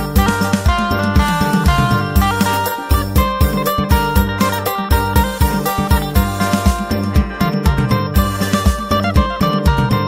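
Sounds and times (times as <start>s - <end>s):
backing track with bass and beat: 0.0s - 10.0s
plucked lute melody: 0.0s - 10.0s.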